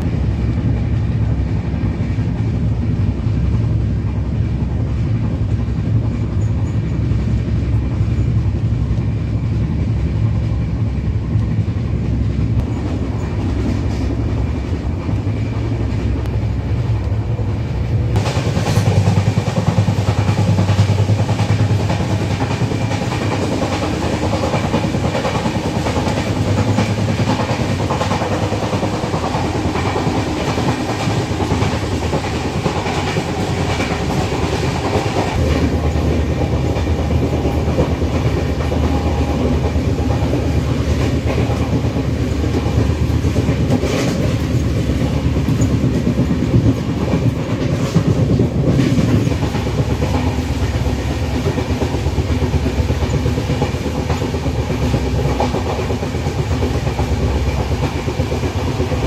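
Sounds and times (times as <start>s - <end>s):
train coach rumble: 0.0s - 59.0s
wheels clacking over rail joints: 11.3s - 59.0s.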